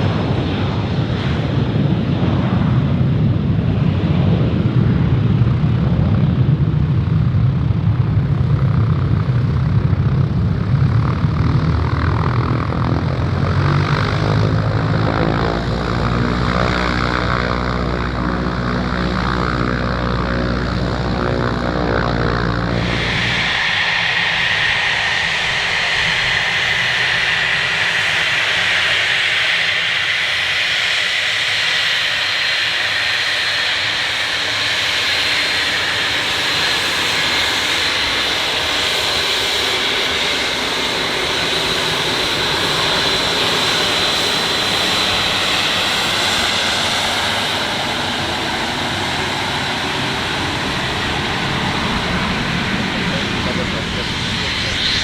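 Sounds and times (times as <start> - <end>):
low engine drone: 0.0 - 28.4, 33.0 - 55.0
jet engine high-pitched whine: 0.0 - 55.0
rushing jet noise: 8.8 - 55.0.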